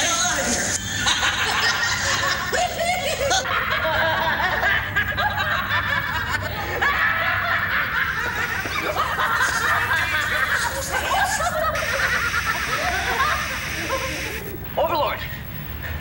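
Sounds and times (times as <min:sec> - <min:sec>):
people laughing: 0:00.0 - 0:14.7.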